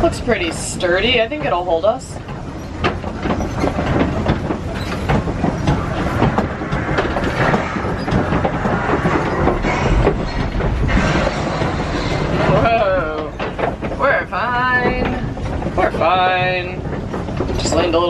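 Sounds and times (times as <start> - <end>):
deep rumble: 0.0 - 18.0
truck rattling across wooden bridge: 0.0 - 18.0
wooden bridge creaking: 0.0 - 18.0.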